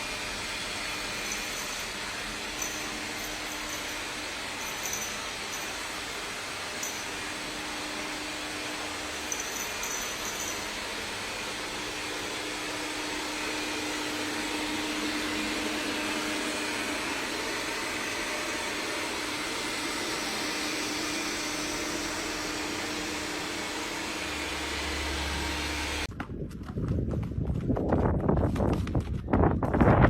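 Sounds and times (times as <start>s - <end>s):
small motor whirring: 0.0s - 26.1s.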